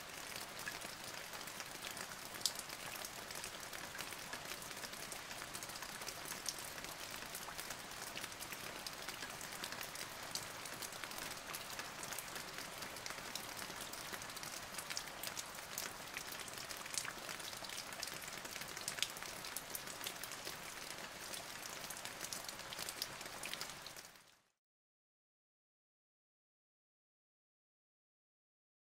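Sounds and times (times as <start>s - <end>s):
steady rain patter: 0.0s - 24.6s.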